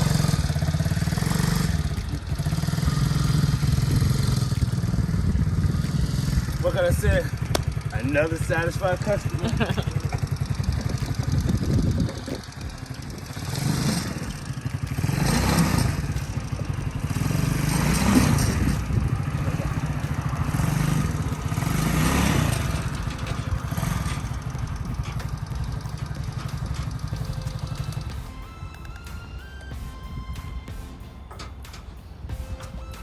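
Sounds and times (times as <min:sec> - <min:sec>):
small engine revving: 0:00.0 - 0:28.2.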